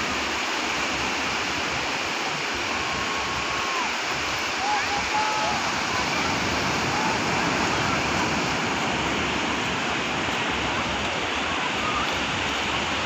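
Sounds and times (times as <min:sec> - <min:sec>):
sea surf breaking on beach: 0:00.0 - 0:13.0.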